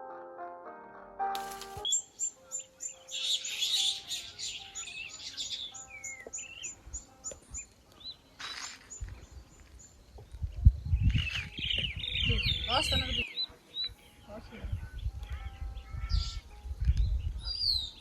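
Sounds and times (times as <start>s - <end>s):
birds chirping and singing: 1.4s - 18.0s.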